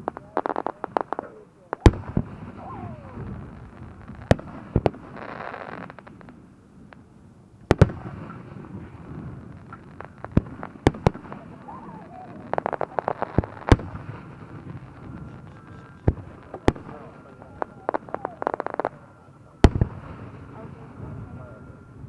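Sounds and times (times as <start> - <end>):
crackling firework pops: 0.0 - 20.4
firework shells bursting: 0.0 - 20.5.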